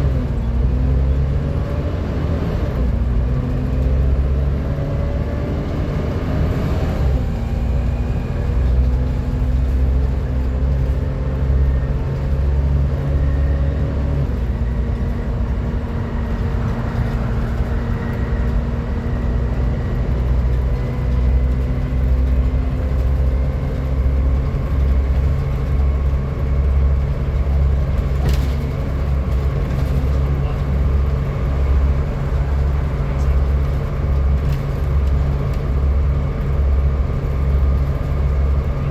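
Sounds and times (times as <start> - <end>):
bus whine: 0.0 - 38.9
engine rumble pulsing: 0.0 - 38.9.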